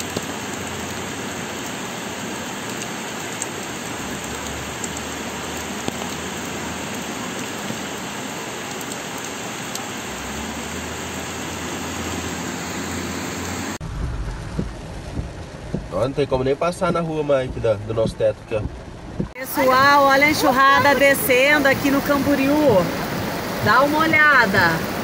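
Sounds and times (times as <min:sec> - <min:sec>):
heavy rain hiss: 0:00.0 - 0:18.7, 0:19.4 - 0:25.0.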